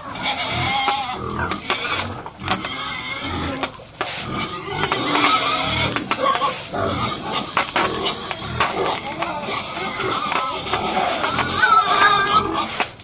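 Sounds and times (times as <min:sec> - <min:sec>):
pigs grunting and squealing: 0:00.0 - 0:13.0.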